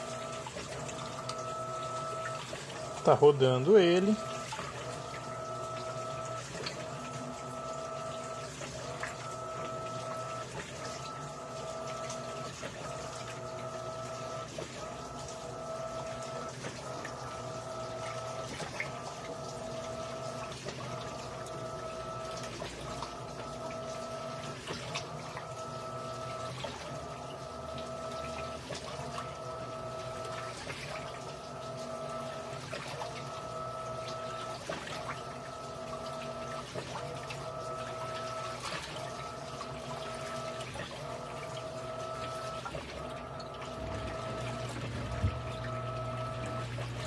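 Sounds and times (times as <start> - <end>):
washing machine motor hum: 0.0 - 47.0.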